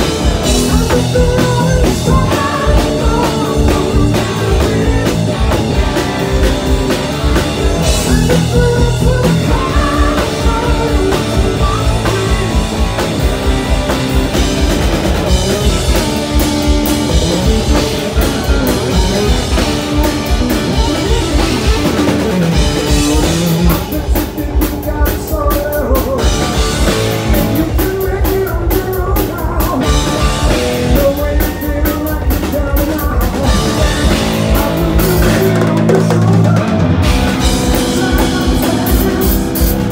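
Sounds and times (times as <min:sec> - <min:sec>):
man singing lead vocal: 0:00.0 - 0:13.5, 0:17.1 - 0:39.9
distorted electric guitar: 0:00.0 - 0:39.9
drum kit: 0:00.0 - 0:39.9.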